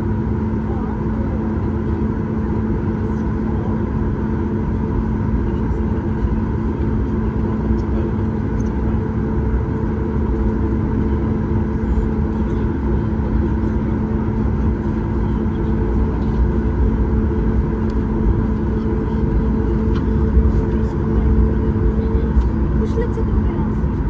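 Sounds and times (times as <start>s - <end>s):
airplane cabin rumble while taxiing: 0.0s - 24.0s
steady hum: 0.0s - 24.0s.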